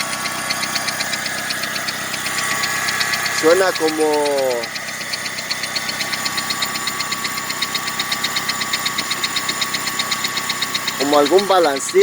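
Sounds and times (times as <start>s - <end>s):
car engine tapping: 0.0s - 12.0s.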